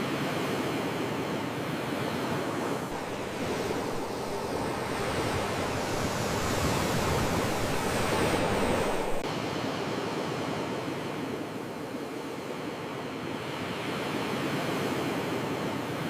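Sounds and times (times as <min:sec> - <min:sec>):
sea waves washing on shore: 0:00.1 - 0:16.0.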